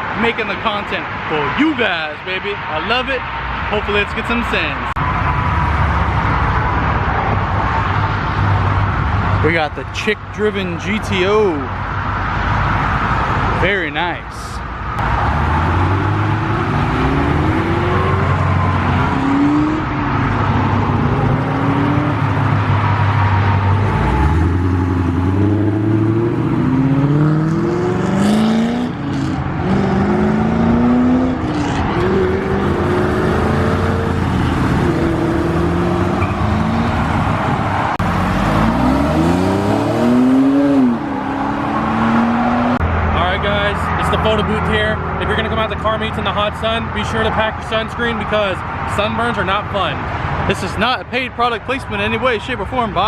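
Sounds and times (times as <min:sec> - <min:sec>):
car engines accelerating: 0:00.0 - 0:53.0.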